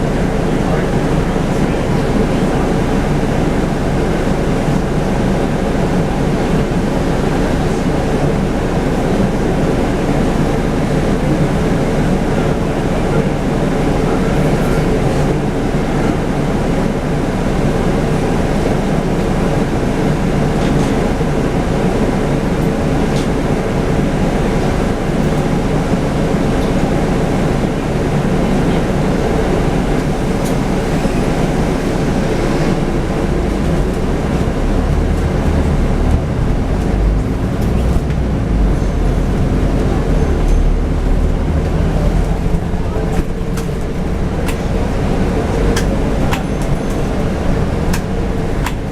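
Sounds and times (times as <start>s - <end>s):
bus diesel engine drone: 0.0s - 48.9s
road noise: 0.0s - 48.9s.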